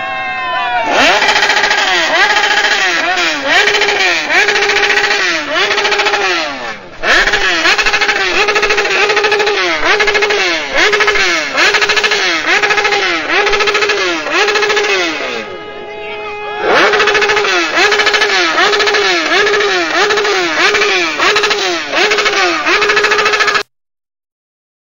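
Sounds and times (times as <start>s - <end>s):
motorcycle engine revving: 0.8s - 15.8s, 16.4s - 23.7s.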